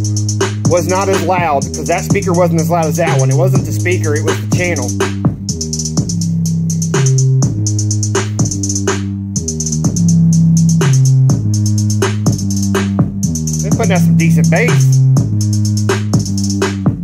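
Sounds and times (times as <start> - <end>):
deep bass line: 0.0 - 17.0
hip-hop beat with drum machine: 0.0 - 17.0.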